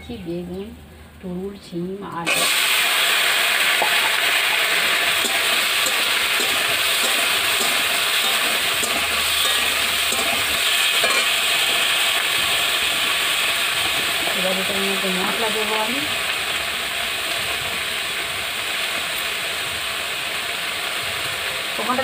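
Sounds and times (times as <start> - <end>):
vegetables sizzling in hot oil: 2.2 - 22.0.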